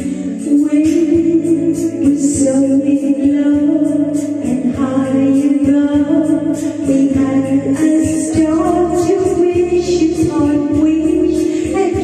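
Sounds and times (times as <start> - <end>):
karaoke backing track: 0.0 - 12.0
woman singing a pop ballad: 0.0 - 12.0.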